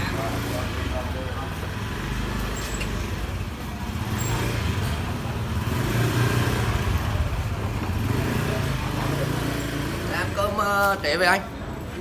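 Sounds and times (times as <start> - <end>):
scooter engine humming: 0.0 - 12.0.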